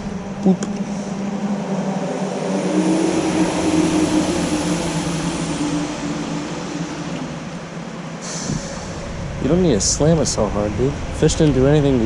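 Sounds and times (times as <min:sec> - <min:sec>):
passing motor vehicle engine hum: 0:00.0 - 0:12.0.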